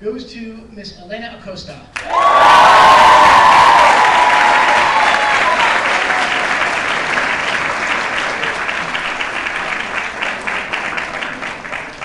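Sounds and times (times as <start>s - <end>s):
audience applauding: 2.0s - 12.0s.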